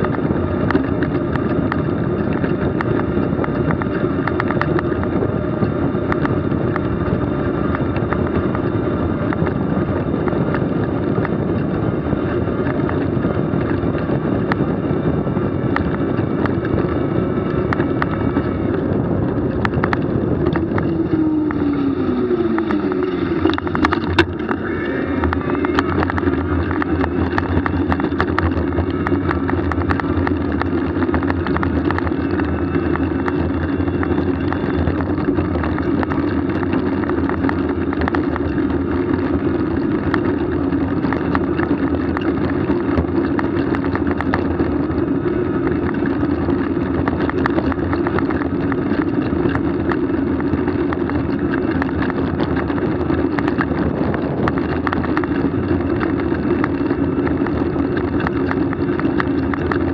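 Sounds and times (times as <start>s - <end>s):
tyres rolling on road: 0.0s - 59.9s
wind from moving vehicle: 0.0s - 59.9s.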